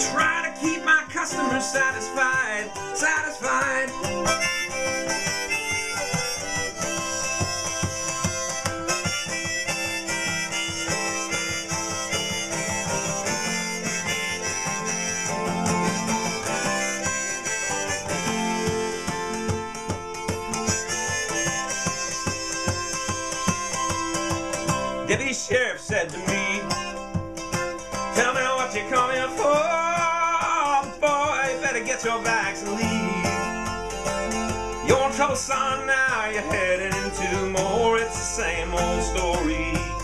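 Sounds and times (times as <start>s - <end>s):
harmonica playing: 0.0s - 40.0s
strummed acoustic guitar: 0.0s - 40.0s.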